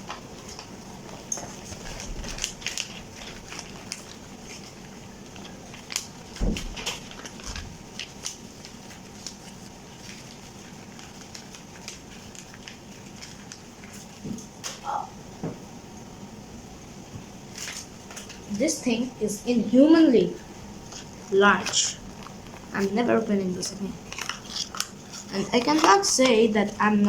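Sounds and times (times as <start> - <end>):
paper poster crinkling: 0.0 - 14.8, 17.4 - 27.0.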